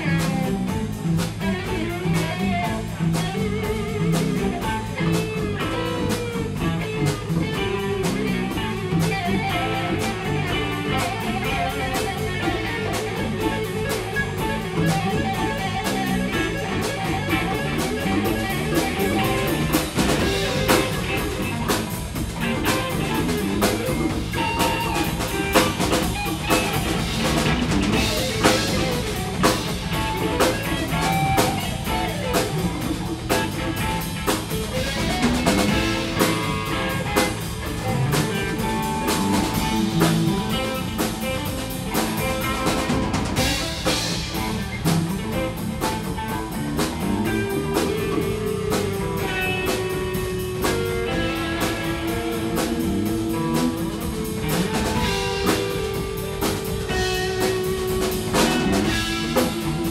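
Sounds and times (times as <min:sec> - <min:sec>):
bass guitar: 0:00.0 - 0:59.9
djembe: 0:00.0 - 0:59.9
drum kit beat: 0:00.0 - 0:59.9
electric guitars playing: 0:00.0 - 0:59.9.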